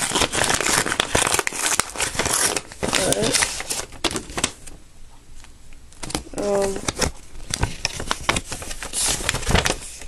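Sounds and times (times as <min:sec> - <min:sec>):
paper rustling and crinkling: 0:00.0 - 0:04.8, 0:06.0 - 0:10.0.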